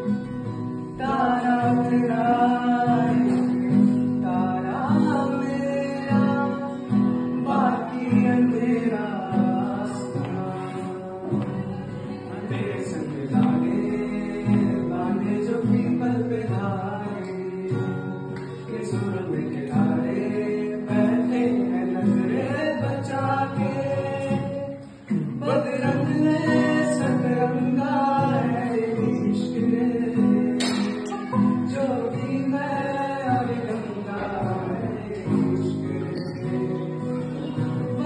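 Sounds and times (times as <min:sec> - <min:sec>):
acoustic guitar: 0:00.0 - 0:38.0
men singing together: 0:07.4 - 0:38.0.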